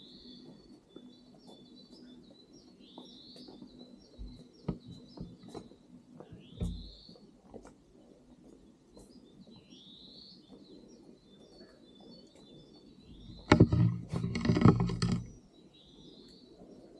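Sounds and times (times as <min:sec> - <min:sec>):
songbird chirping: 0:00.0 - 0:16.9.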